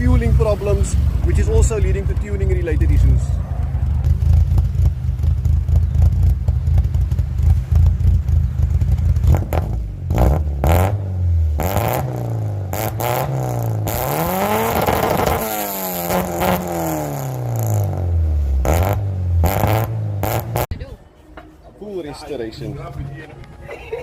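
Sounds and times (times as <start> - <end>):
car engine idling and revving: 0.0 - 20.7.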